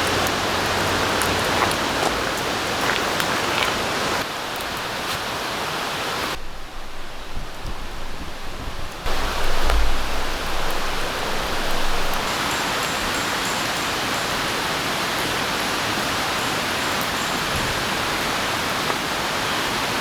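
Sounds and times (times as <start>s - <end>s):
rain falling in forest: 0.0s - 20.0s.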